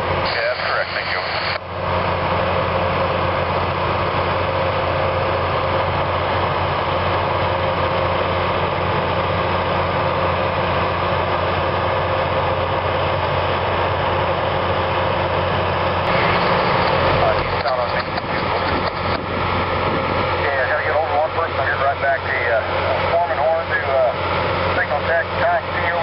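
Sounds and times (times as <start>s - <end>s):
diesel engines idling: 0.0s - 26.0s.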